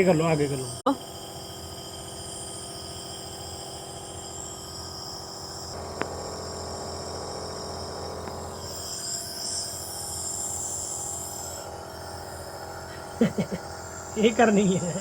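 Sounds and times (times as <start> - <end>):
steam inhaler hum and hiss: 1.0 - 15.0.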